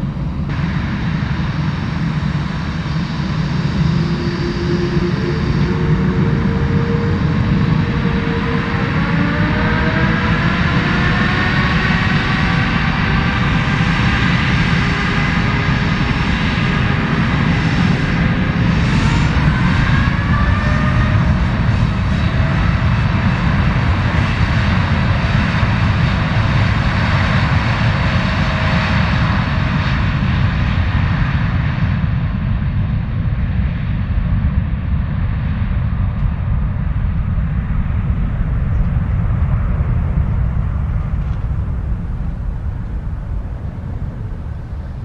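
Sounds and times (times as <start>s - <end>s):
jet engine whine: 0.0s - 45.0s
low aircraft rumble: 0.0s - 45.0s.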